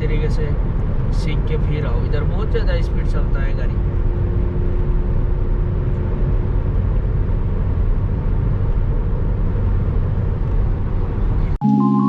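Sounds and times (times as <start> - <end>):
car road and wind noise: 0.0 - 11.6.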